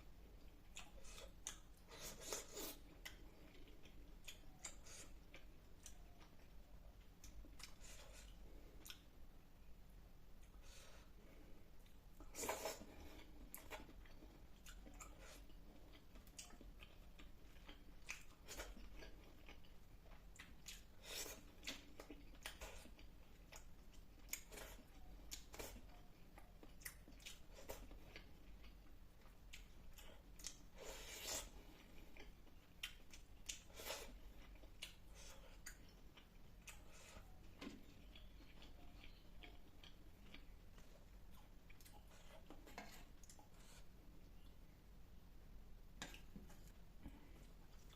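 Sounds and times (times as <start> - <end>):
person chewing food: 0.1 - 44.8, 45.9 - 47.9.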